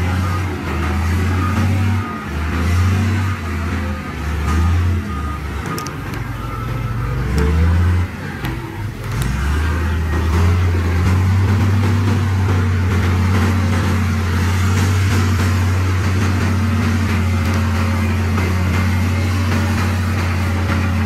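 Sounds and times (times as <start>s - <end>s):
heavy diesel engine drone: 0.0s - 21.0s.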